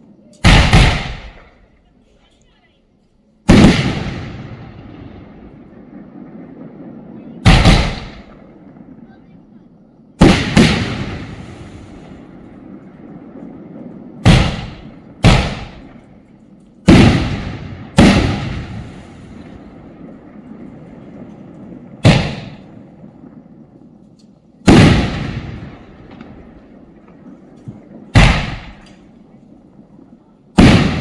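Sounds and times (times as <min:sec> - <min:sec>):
firework bangs with echo: 0:00.4 - 0:01.7, 0:03.4 - 0:09.5, 0:10.1 - 0:23.7, 0:24.6 - 0:31.0.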